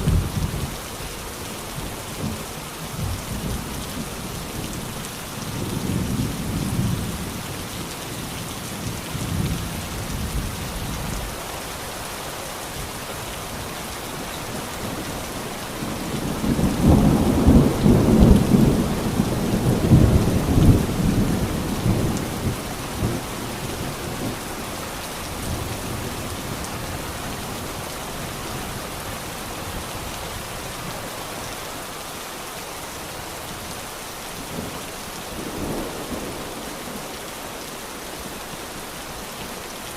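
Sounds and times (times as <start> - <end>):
heavy rainfall hissing: 0.0 - 39.9.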